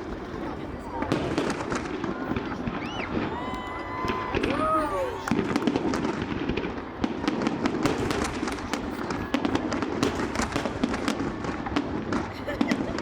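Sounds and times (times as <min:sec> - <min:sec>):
fireworks bangs: 0:00.0 - 0:13.0
fireworks crackling and popping: 0:00.0 - 0:13.0.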